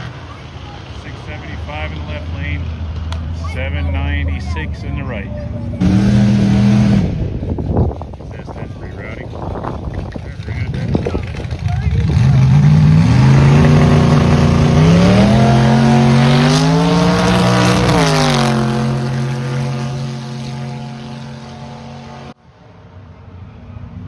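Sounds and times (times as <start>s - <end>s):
truck engine at full throttle: 0.0s - 22.4s.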